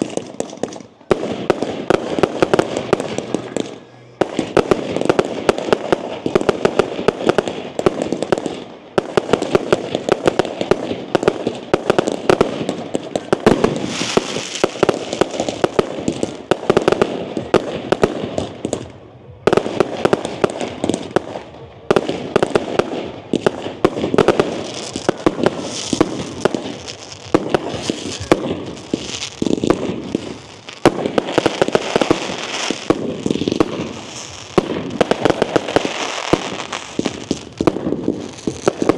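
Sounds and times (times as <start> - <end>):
fireworks banging and crackling: 0.0 - 38.9.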